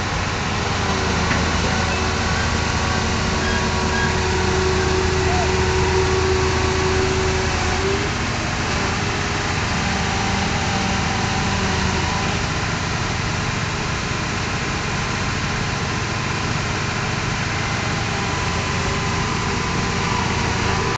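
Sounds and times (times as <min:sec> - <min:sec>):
diesel engine of heavy machinery: 0:00.0 - 0:20.9.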